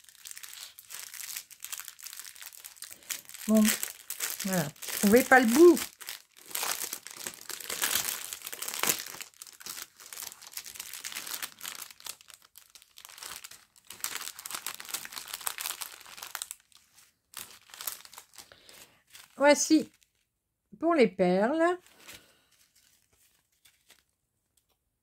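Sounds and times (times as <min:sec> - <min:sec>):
plastic bags crinkling: 0:00.0 - 0:20.3, 0:21.8 - 0:24.2.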